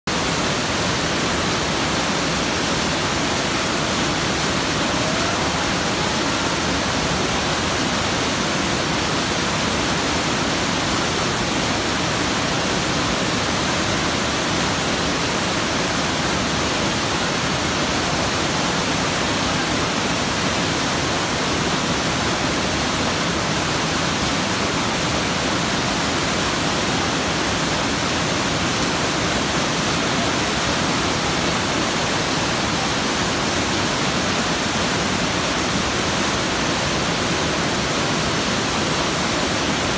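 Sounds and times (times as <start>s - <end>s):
waterfall rushing over boulders: 0.0s - 39.9s.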